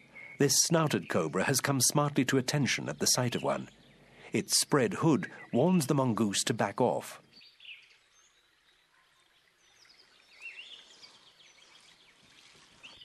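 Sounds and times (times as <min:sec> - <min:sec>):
faint bird chirps: 0:00.0 - 0:06.0, 0:06.6 - 0:13.0
outdoor background hiss: 0:00.0 - 0:13.0.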